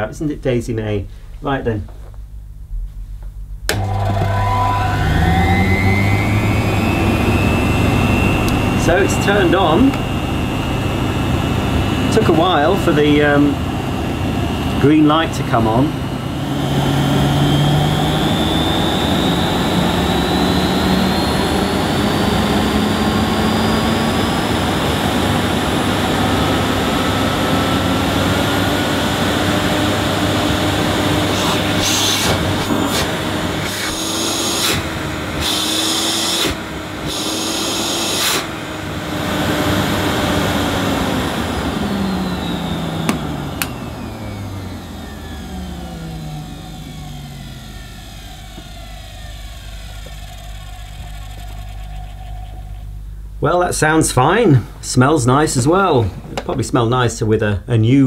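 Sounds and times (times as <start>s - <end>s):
vacuum cleaner running: 3.6s - 56.6s.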